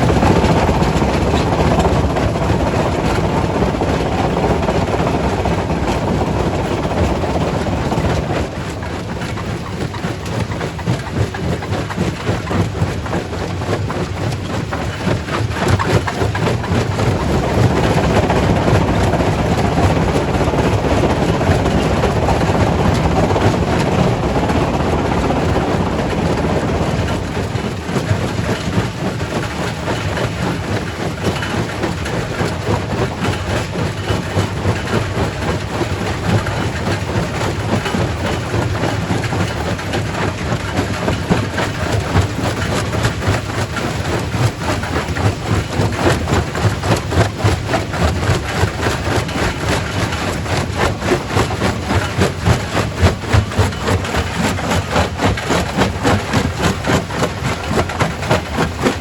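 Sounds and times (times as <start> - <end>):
rock crusher rumbling: 0.0 - 59.0.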